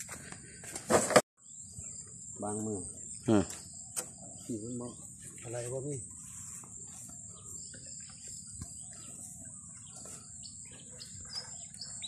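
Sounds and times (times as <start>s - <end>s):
bird chirps: 1.4s - 12.0s
crickets trilling: 1.4s - 12.0s.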